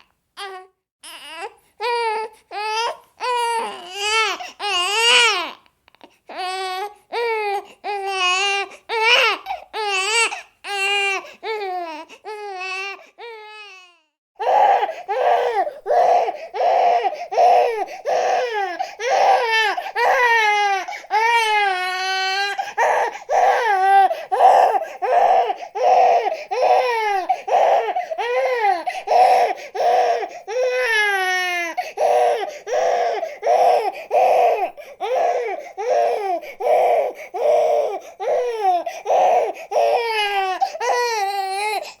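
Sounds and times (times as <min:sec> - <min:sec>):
infant crying: 0:00.0 - 0:42.0.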